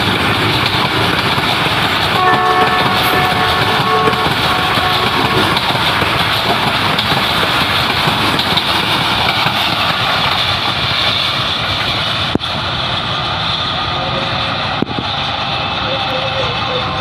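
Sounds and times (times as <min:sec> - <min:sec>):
train wheels rumbling and rattling: 0:00.0 - 0:17.0.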